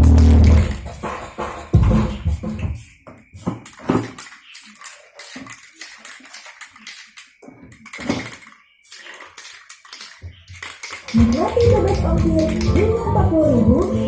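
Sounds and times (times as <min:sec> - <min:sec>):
small hard objects clattering: 0:00.2 - 0:13.0.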